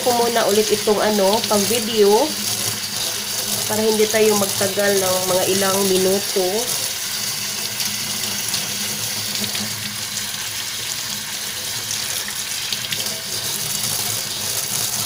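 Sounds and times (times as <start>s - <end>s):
hands rinsing in water: 0.0s - 15.0s.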